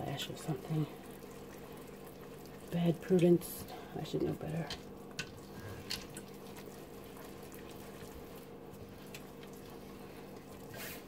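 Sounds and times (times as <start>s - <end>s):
whisk stirring thick soap: 0.0s - 11.0s.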